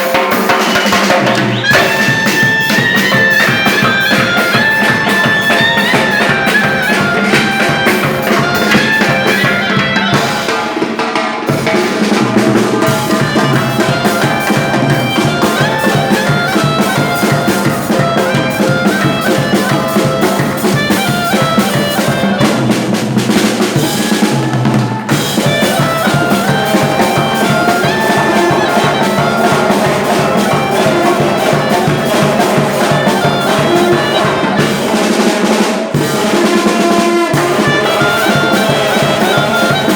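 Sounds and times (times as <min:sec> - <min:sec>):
fast drum beat: 0:00.0 - 0:39.9
wind and brass band melody: 0:00.0 - 0:39.9.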